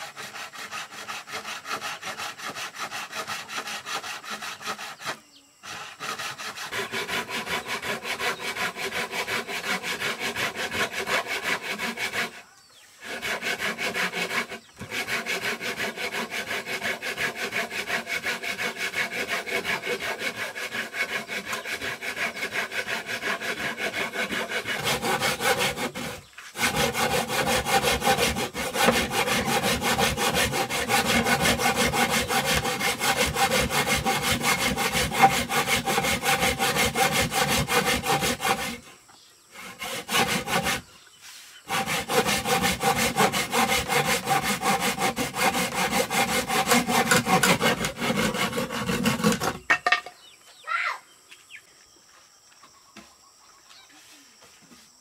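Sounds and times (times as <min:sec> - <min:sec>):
hand saw cutting wood: 0:00.0 - 0:38.9, 0:39.5 - 0:40.9, 0:41.6 - 0:49.7.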